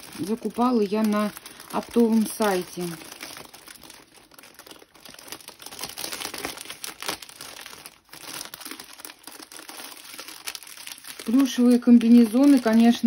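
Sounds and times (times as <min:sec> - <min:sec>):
plastic mailer bag crinkling: 0:00.0 - 0:13.0.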